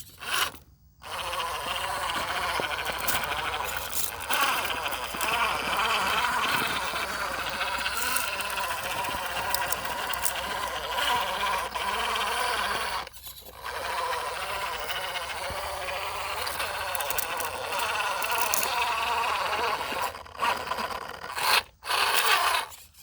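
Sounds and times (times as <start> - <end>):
electric motor whining: 0.0 - 22.9.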